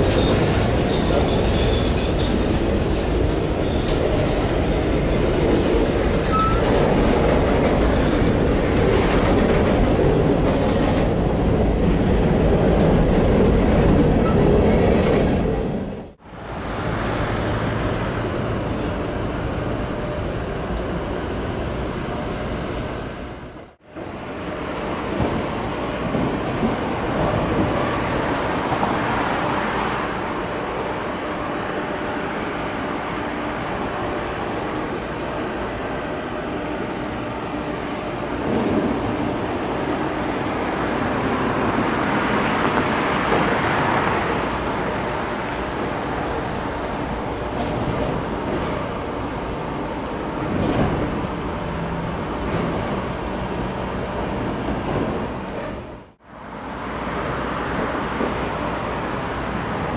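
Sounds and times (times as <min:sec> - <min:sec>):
freight cars rolling on rails: 0:00.0 - 0:59.9
road traffic: 0:00.0 - 0:59.9.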